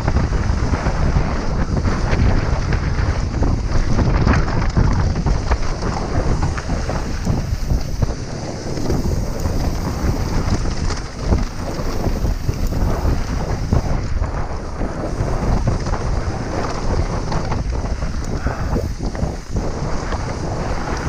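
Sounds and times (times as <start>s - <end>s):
bike rattling over bumps: 0.0s - 21.0s
wind buffeting microphone: 0.0s - 21.0s
tyres rolling on dirt: 0.1s - 21.0s.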